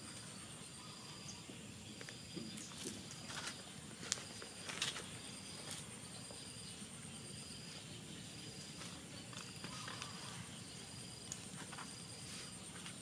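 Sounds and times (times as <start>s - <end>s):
insects pulsing chirr: 0.0s - 13.0s.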